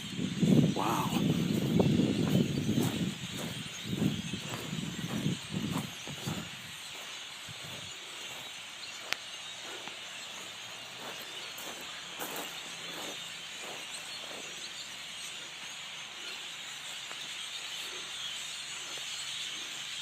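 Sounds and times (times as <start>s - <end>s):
flock of birds chirping: 0.0s - 20.0s.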